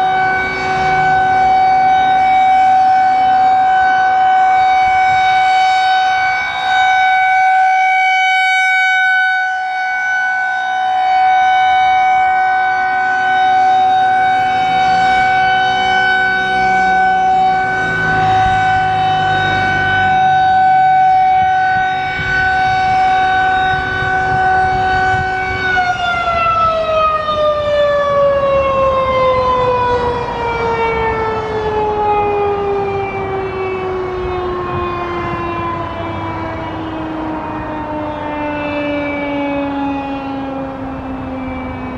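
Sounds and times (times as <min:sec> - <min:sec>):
rotating siren wailing: 0:00.0 - 0:41.9.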